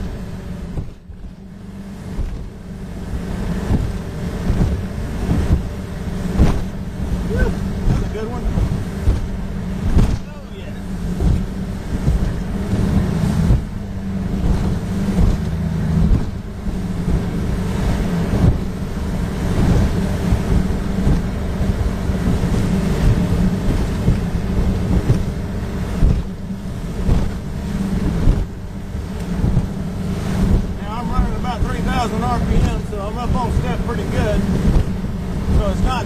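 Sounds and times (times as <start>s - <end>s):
boat engine running: 0.0s - 36.0s
hull slapping through waves: 0.0s - 36.0s
wind buffeting microphone: 0.0s - 36.0s.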